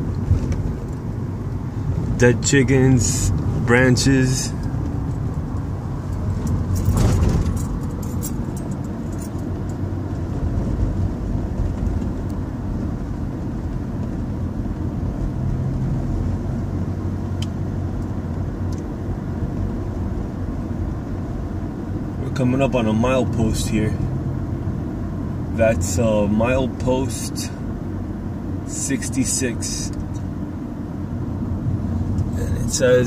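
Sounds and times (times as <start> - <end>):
car cabin engine and tyre rumble: 0.0 - 33.0.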